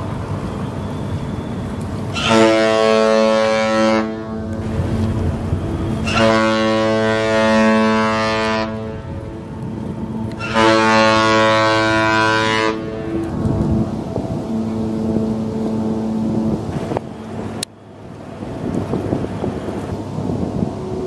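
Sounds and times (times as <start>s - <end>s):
ship horn blasts: 0.3s - 19.0s.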